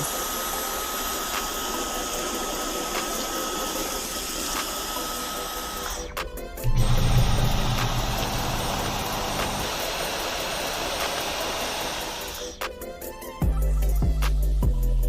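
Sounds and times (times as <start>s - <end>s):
stick vacuum running: 0.0s - 13.1s.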